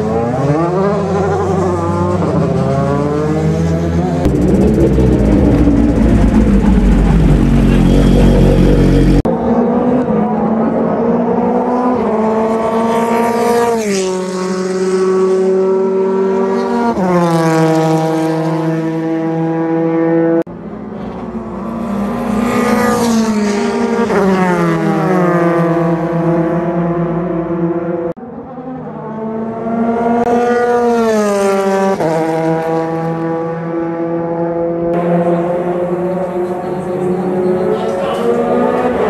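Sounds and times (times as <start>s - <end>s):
race car engine accelerating: 0.0s - 39.0s.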